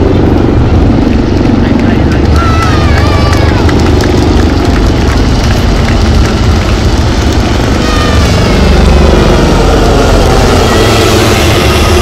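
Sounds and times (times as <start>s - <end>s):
helicopter engine whine: 0.0s - 12.0s
helicopter rotor noise: 0.0s - 12.0s.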